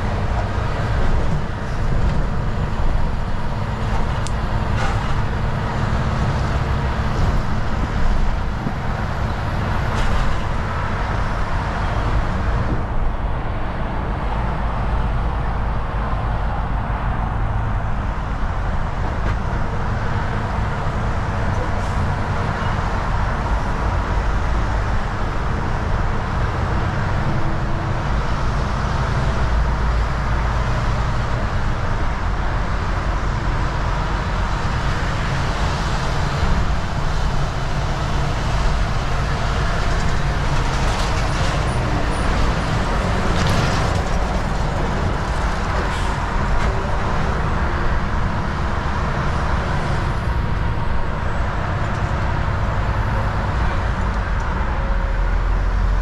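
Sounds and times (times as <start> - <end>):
road rumble: 0.0 - 56.0
truck engine: 0.0 - 56.0.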